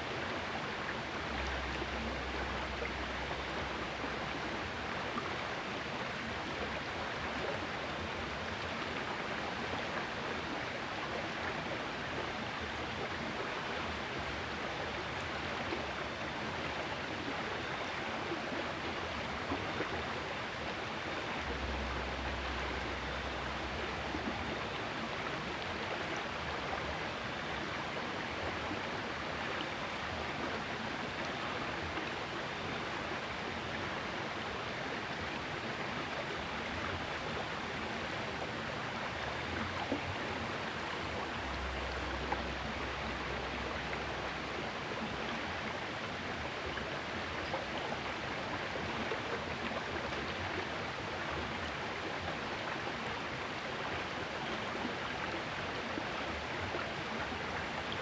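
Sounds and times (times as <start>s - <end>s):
small river flowing: 0.0s - 58.0s.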